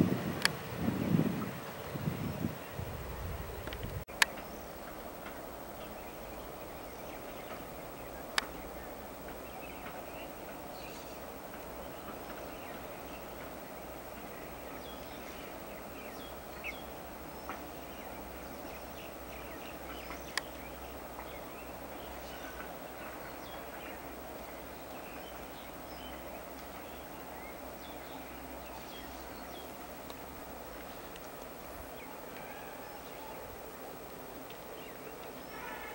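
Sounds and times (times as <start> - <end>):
faint outdoor background noise: 0.0 - 35.9.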